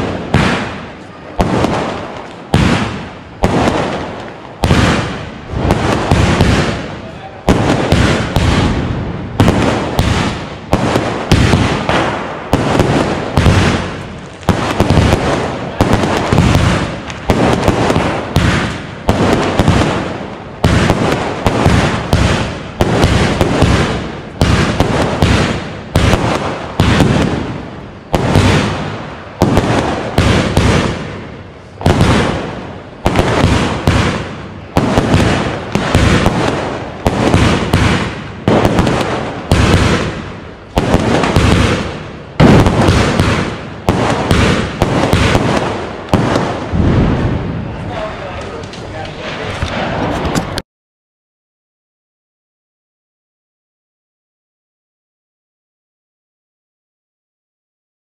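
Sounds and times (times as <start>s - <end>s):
firework shells bursting: 0.0s - 50.6s.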